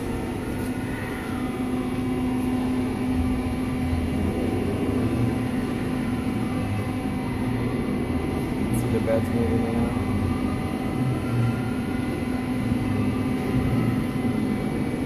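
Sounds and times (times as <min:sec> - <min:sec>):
machining center mechanical hum: 0:00.0 - 0:15.0.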